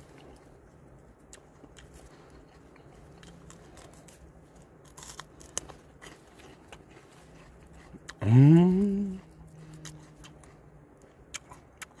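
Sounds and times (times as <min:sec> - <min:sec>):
person chewing crunchy vegetables: 0:00.0 - 0:12.0.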